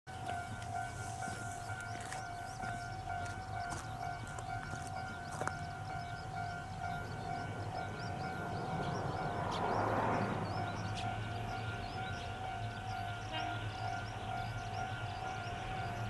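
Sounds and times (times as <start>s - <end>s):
level crossing alarm ringing: 0.1s - 16.0s
small birds chirping: 0.1s - 16.0s.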